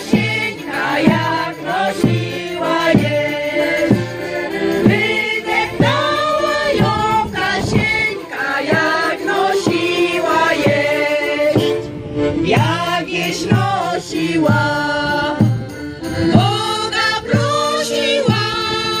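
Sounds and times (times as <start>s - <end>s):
women's choir singing folk song: 0.0s - 19.0s.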